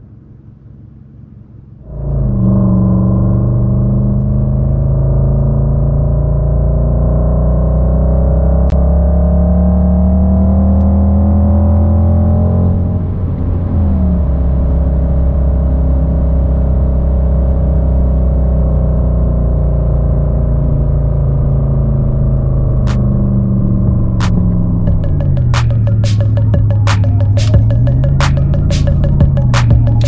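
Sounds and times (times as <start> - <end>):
simulated engine and exhaust sound: 0.0 - 30.0.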